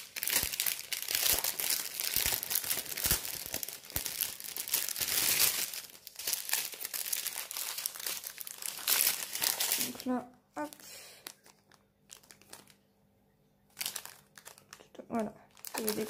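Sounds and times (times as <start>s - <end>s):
plastic packaging crinkling: 0.0s - 12.8s, 13.7s - 16.0s.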